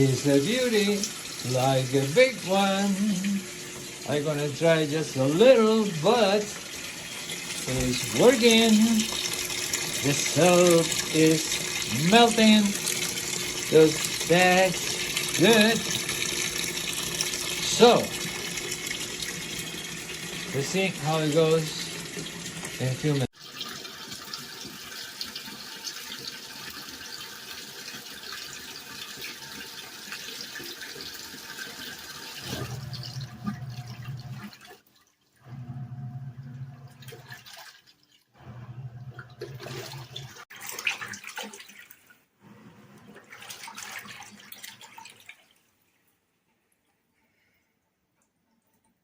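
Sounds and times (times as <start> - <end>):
washing machine motor agitating: 0.0 - 34.8, 35.4 - 37.8, 38.4 - 41.8, 42.4 - 45.2
water running into drum: 0.0 - 45.6.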